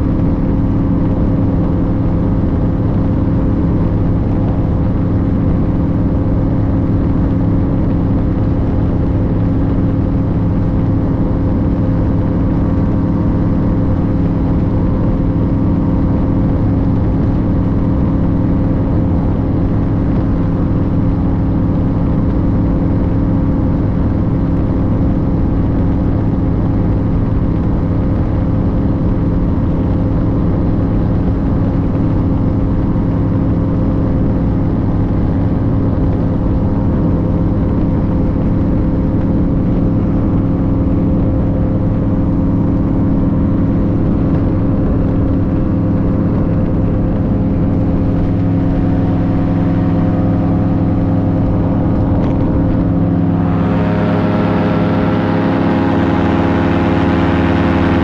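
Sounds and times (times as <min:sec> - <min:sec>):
engine droning steadily: 0:00.0 - 0:58.0.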